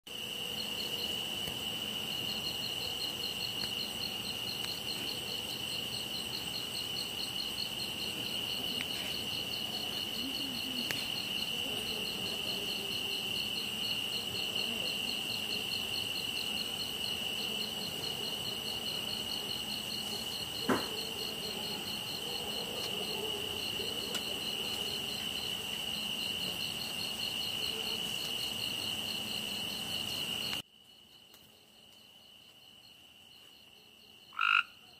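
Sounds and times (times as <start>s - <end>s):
cricket steady high trill: 0.1s - 34.9s
fast pulsing cricket chirp: 0.1s - 34.9s.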